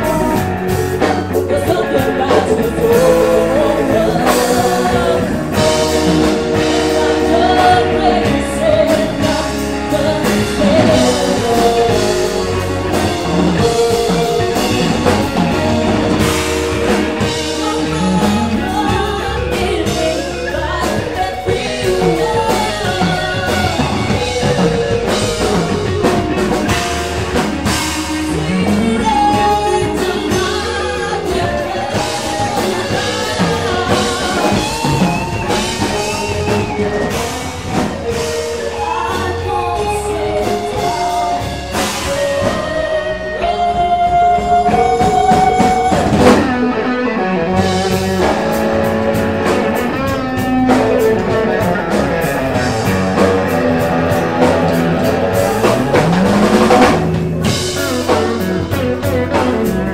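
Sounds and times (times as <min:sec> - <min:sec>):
bass guitar: 0:00.0 - 0:59.9
drum kit: 0:00.0 - 0:59.9
electric guitars: 0:00.0 - 0:59.9
woman singing lead: 0:00.0 - 0:59.9.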